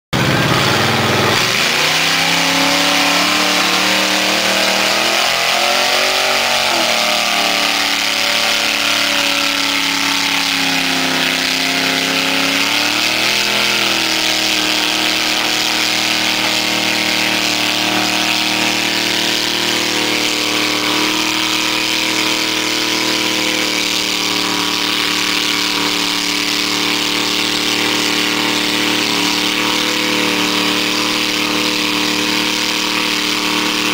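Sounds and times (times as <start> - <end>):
tires spinning through mud: 0.2 - 33.9
truck engine revving under load: 0.2 - 33.9.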